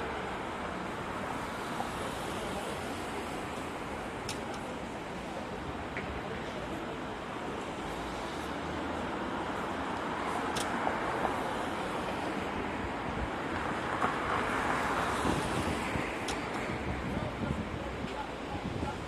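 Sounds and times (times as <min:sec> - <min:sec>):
street noise hiss and rumble: 0:00.0 - 0:19.0.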